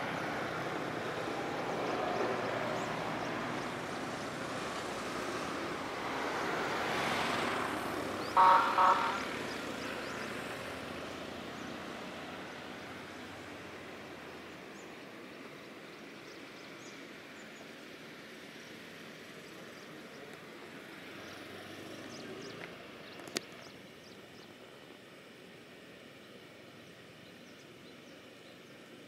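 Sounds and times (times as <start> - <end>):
road vehicle passing: 0.0 - 24.9.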